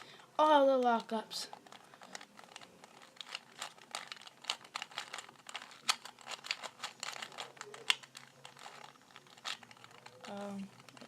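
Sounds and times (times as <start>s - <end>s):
puzzle cube plastic clicks: 0.0s - 11.0s.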